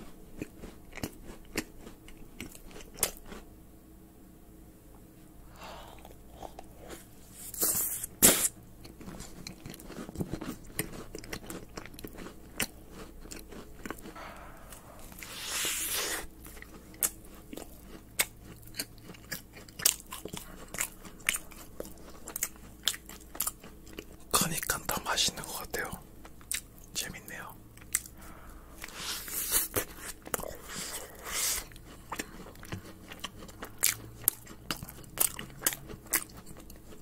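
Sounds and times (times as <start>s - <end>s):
chewing with mouth clicks: 0.0s - 3.4s, 5.8s - 37.0s.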